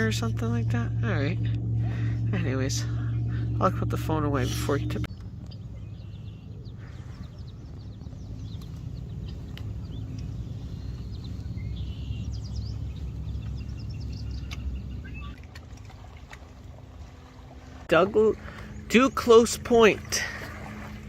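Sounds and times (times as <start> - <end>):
birds chirping: 0.0 - 21.0
low steady rumble: 0.0 - 21.0.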